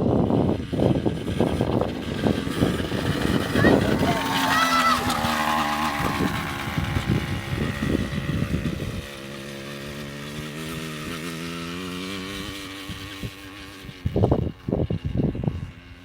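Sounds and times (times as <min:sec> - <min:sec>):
motorbike engine running: 0:00.0 - 0:16.0.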